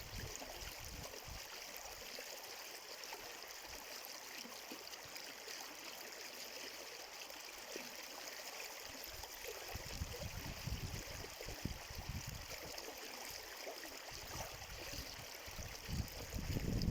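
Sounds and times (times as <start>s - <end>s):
stream flowing: 0.0s - 16.9s.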